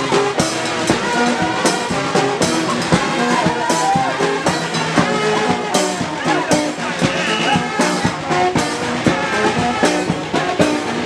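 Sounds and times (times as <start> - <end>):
marching brass band playing: 0.0 - 11.0.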